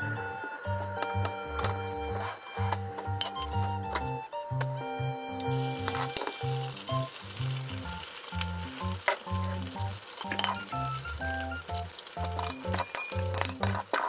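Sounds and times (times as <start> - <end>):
eggs sizzling in frying pan: 0.0 - 14.0.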